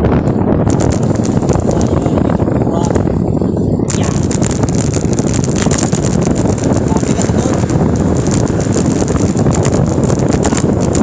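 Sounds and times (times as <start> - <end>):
road rumble: 0.0 - 11.0
wind buffeting microphone: 0.0 - 11.0.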